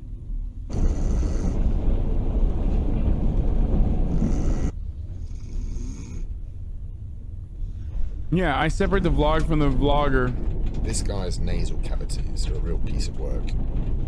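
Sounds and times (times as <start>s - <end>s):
train rumbling rush: 0.0s - 14.0s.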